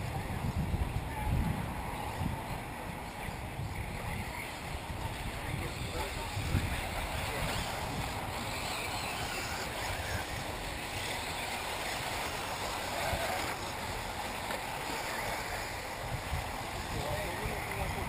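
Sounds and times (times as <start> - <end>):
wind rumbling on microphone: 0.0 - 18.0
electric rc buggies running: 0.1 - 18.0.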